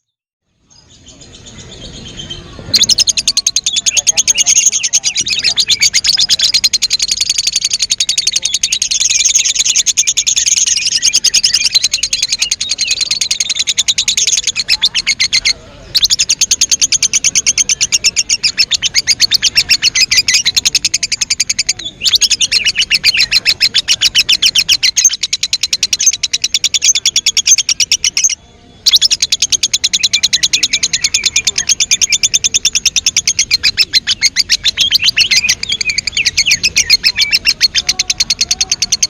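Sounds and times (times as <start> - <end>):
bird chattering trill: 0.8 - 39.0.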